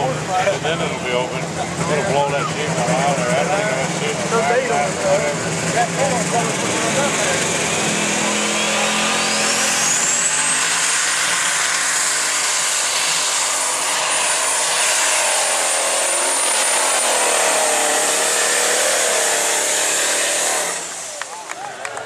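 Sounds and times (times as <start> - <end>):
high turbo whine: 0.0 - 21.4
diesel engine at full power: 0.0 - 22.0.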